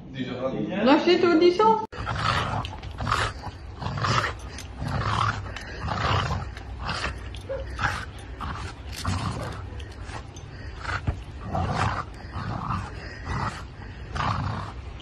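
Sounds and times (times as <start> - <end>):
dog growling: 1.9 - 15.0.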